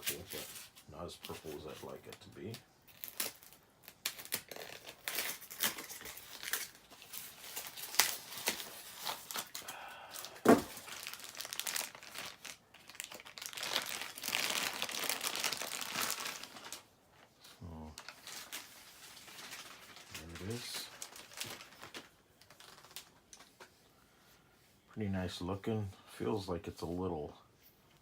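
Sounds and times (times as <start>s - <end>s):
packaging crinkling and tearing: 0.0s - 23.7s.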